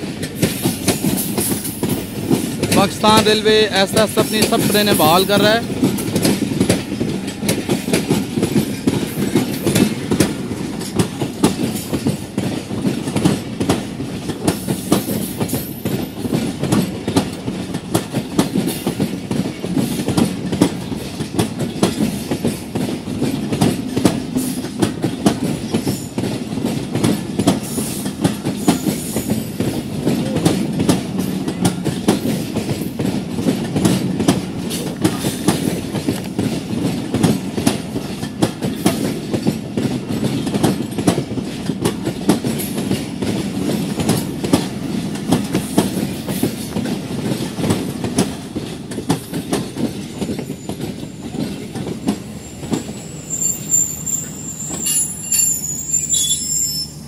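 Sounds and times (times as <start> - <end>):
wheels clacking over rail joints: 0.0 - 56.8
train wheels rumbling on rails: 0.0 - 57.0.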